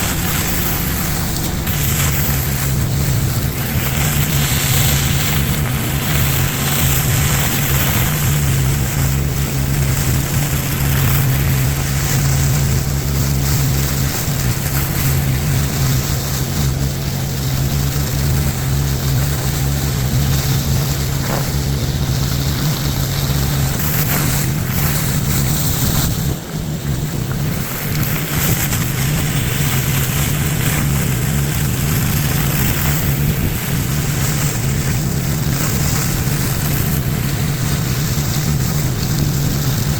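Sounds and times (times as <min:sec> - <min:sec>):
high-pressure water spray hiss: 0:00.0 - 0:39.9
pressure washer engine running: 0:00.0 - 0:39.9.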